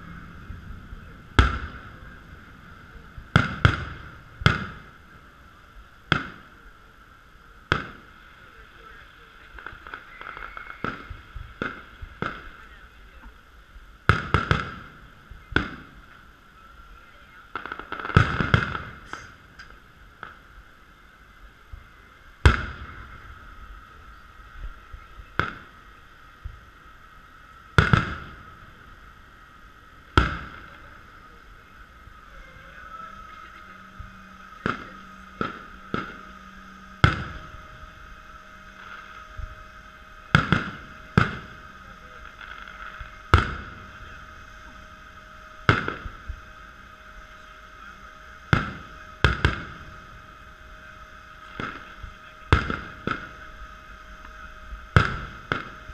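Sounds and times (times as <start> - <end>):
fireworks booming: 0.0 - 55.9
steady background hum: 0.0 - 55.9.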